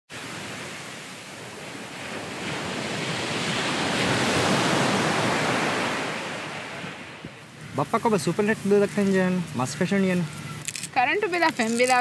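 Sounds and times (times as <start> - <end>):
sea surf washing: 0.1 - 12.0.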